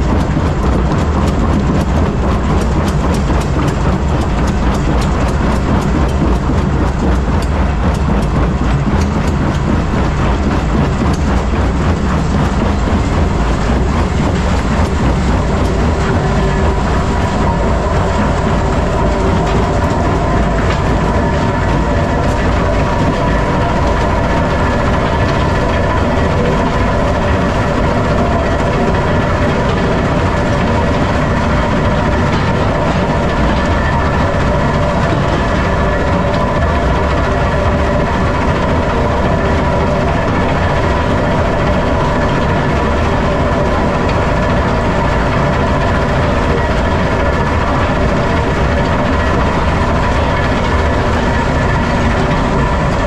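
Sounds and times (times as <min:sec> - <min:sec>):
crusher mechanical din: 0:00.0 - 0:53.0
steady machine whine: 0:00.0 - 0:53.0.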